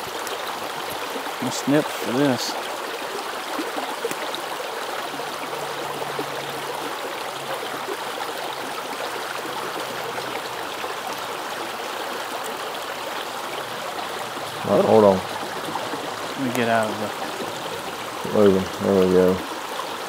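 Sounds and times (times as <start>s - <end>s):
creek running over stones: 0.0s - 20.0s.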